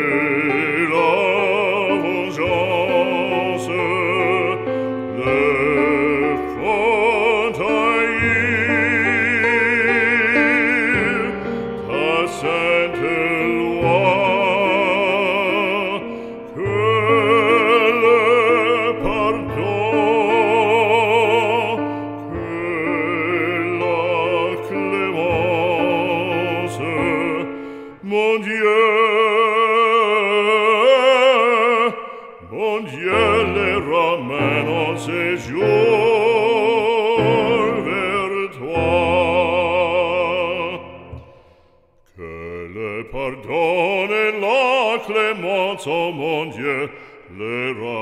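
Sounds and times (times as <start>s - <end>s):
operatic singing: 0.0s - 48.0s.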